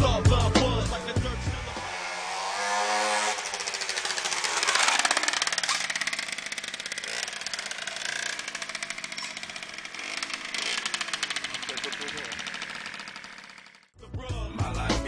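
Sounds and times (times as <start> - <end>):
moped engine revving: 0.0 - 14.0.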